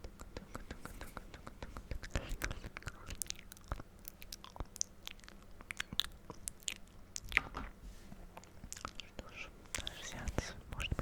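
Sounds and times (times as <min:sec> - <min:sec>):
mouth clicks and lip smacks: 0:00.0 - 0:07.7, 0:08.4 - 0:11.0.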